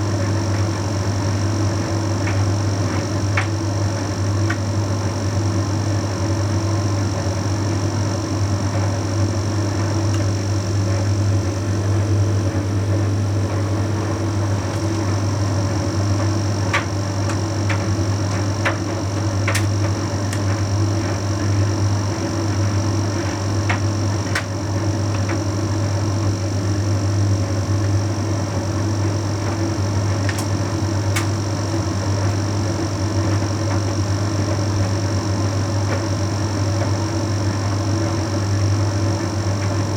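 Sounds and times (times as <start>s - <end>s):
tumble dryer humming: 0.0s - 39.9s.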